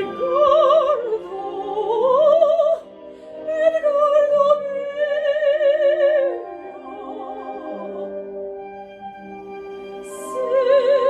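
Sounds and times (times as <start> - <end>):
operatic soprano singing: 0.0 - 11.0
sustained instrumental accompaniment: 0.0 - 11.0.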